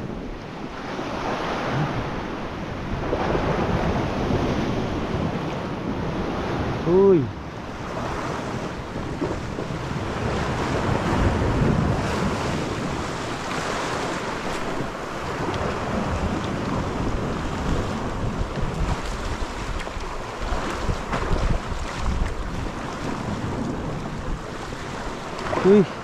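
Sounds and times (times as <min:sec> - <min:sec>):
waves washing on rocks: 0:00.0 - 0:26.0
wind buffeting microphone: 0:00.0 - 0:26.0.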